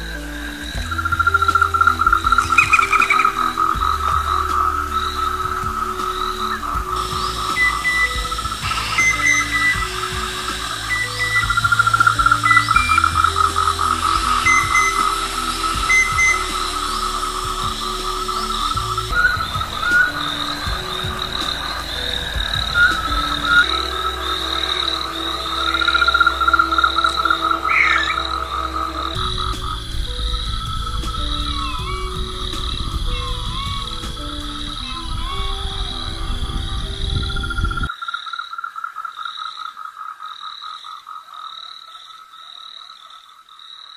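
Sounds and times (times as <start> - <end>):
frogs croaking chorus: 0.0 - 33.8, 36.8 - 43.9
music: 0.0 - 37.9
pulsing high trill: 0.0 - 37.9.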